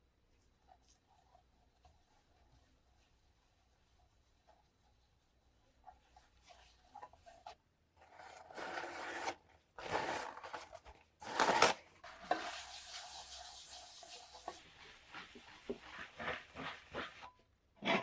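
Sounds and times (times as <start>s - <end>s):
rubbing and scraping strokes: 0.4s - 18.0s.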